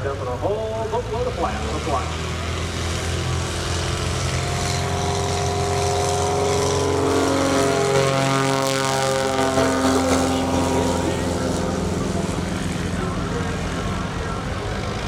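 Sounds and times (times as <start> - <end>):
propeller plane engine at full power: 0.0 - 15.0.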